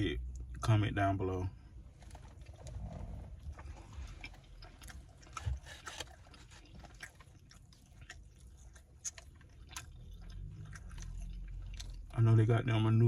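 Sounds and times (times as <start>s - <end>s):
person chewing food: 1.8s - 12.4s.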